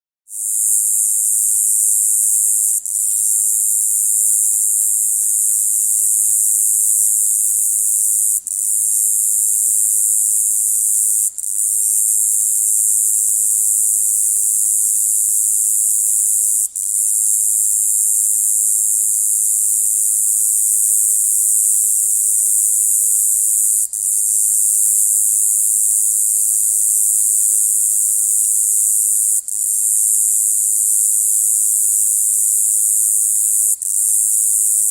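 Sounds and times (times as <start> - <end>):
cicada buzzing: 0.3 - 34.9.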